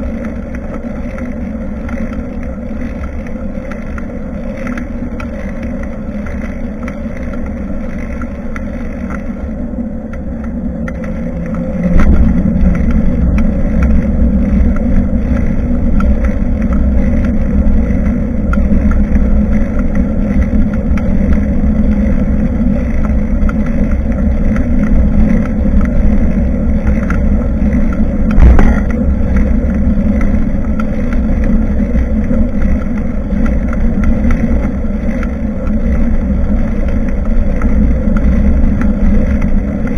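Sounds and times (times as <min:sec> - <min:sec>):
bicycle riding rumble: 0:00.0 - 0:39.9.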